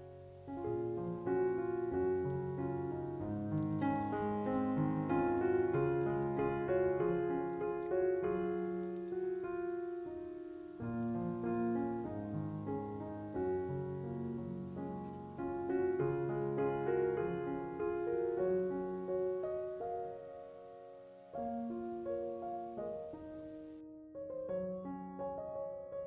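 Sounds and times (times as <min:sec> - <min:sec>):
background piano music: 0:00.0 - 0:26.0.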